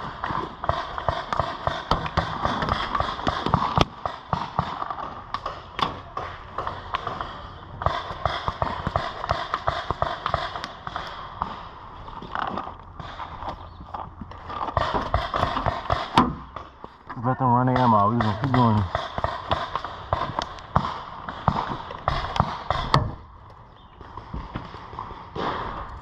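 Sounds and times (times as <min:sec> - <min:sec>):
paintball markers firing: 0:00.0 - 0:13.8, 0:14.5 - 0:16.8, 0:17.5 - 0:26.0.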